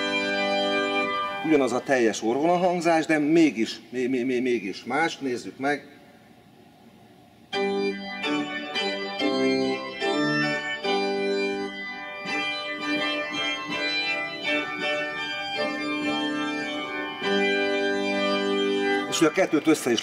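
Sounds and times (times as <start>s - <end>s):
pipe organ chords: 0.0s - 20.0s.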